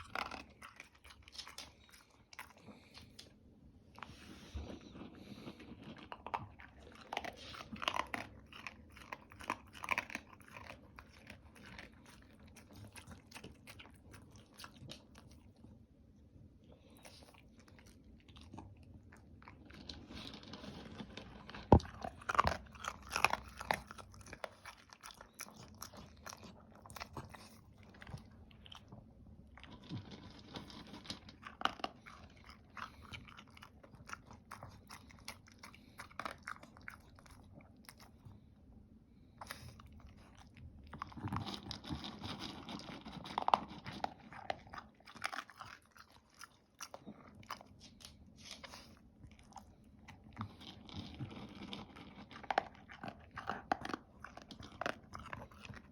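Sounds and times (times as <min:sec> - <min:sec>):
dog chewing dry food: 0:00.0 - 0:03.3, 0:04.0 - 0:15.6, 0:16.9 - 0:38.4, 0:39.4 - 0:55.9.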